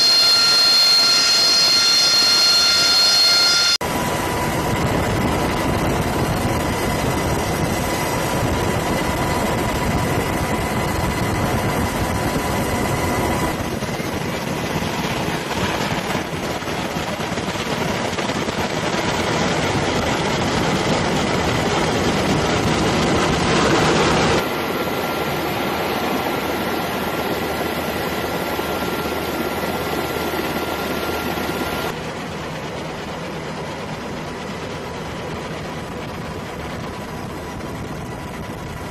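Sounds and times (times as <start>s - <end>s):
helicopter engine and airflow: 0.0s - 38.9s.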